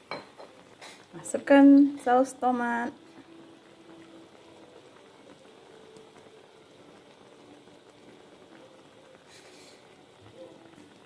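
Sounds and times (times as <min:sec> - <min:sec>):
broth bubbling faintly: 0:00.0 - 0:11.0.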